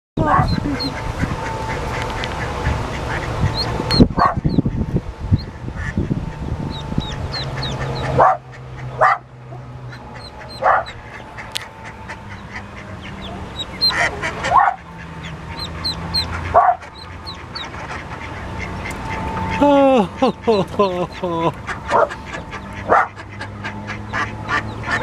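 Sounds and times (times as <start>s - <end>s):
low rumble: 0.2s - 24.2s
ducklings peeping: 0.2s - 25.0s
mother duck calling: 0.2s - 25.0s.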